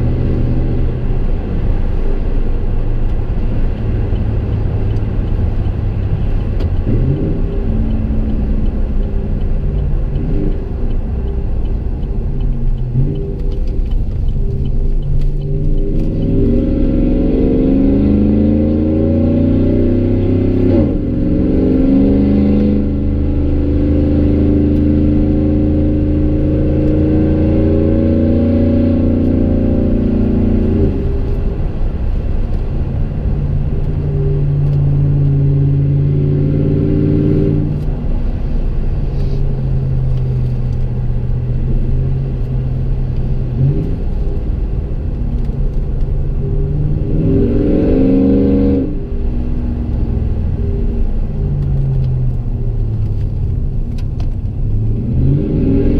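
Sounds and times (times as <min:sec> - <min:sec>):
truck exhaust accelerating: 0:00.0 - 0:55.9.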